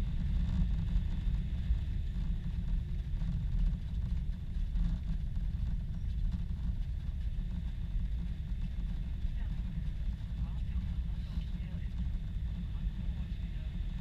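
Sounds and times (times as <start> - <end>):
airliner low rumble: 0.0 - 14.0.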